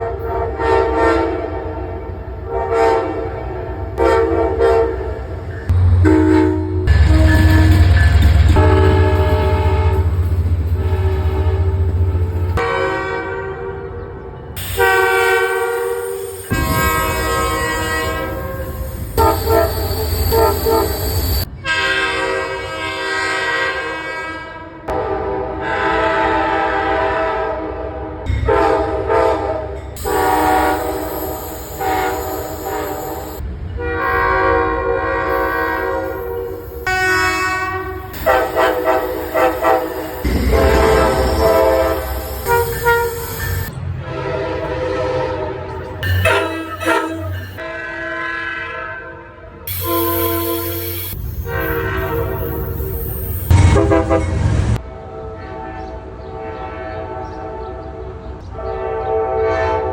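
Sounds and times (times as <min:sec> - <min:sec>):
train rumbling: 0:00.0 - 0:48.0, 0:49.5 - 0:59.9
locomotive air horn blasts: 0:00.0 - 0:59.9.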